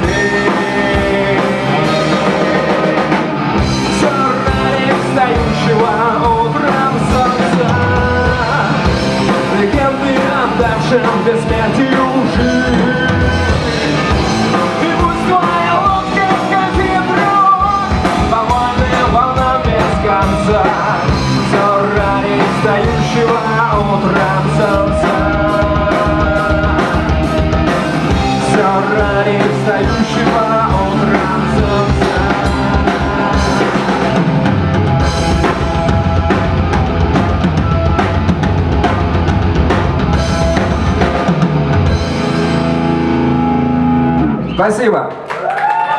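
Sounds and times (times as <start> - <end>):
drum kit pounding: 0.0 - 44.1
distorted guitars: 0.0 - 44.9
bass guitar: 0.0 - 45.9
live rock band playing: 0.0 - 45.9.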